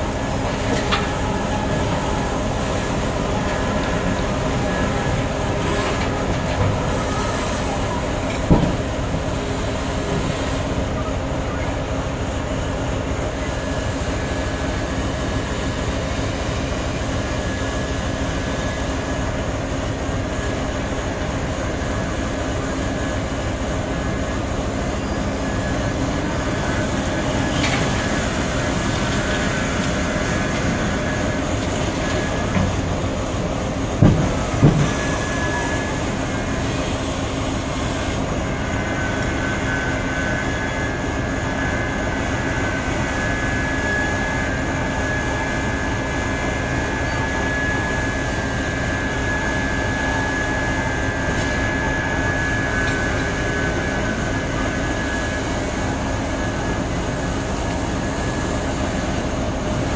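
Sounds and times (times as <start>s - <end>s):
haul trucks: 0.0s - 59.9s
high whine: 0.0s - 59.9s
mining excavator droning: 0.0s - 59.9s.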